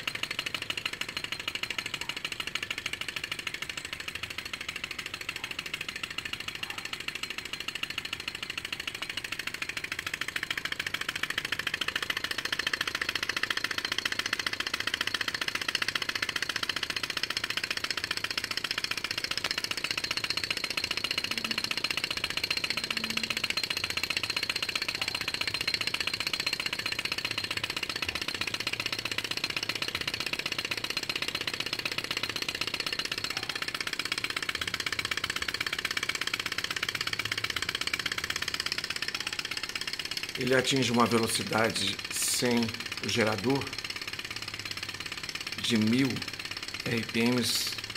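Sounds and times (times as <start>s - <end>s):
small engine mechanical clatter: 0.0s - 47.9s.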